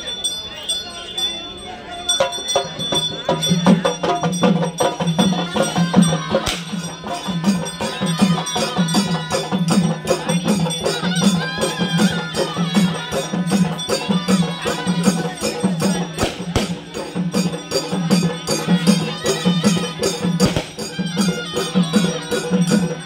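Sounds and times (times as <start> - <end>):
folk music with steady drum beat: 2.6 - 23.0.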